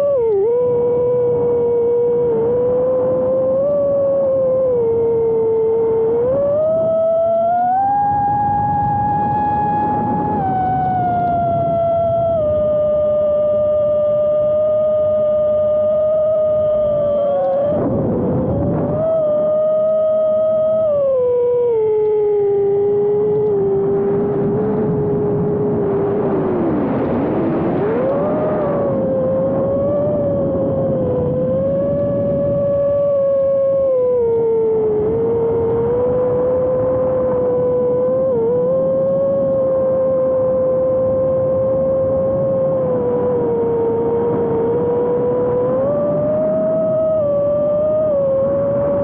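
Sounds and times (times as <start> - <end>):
quadcopter motors whining: 0.0 - 49.0.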